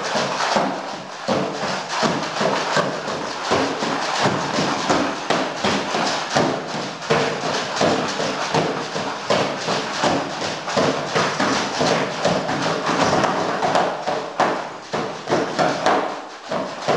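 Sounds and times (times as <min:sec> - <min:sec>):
cardboard box drums beaten: 0:00.0 - 0:16.9.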